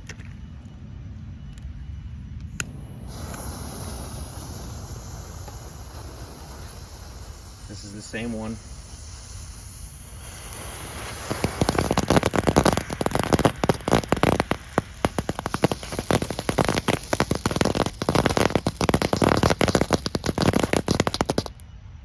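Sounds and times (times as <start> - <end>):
firework crackling: 2.6 - 21.6.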